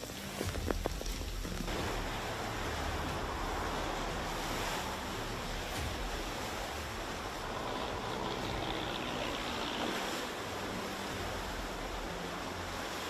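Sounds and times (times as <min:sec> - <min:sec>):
surf breaking over rocks: 0:00.4 - 0:13.0.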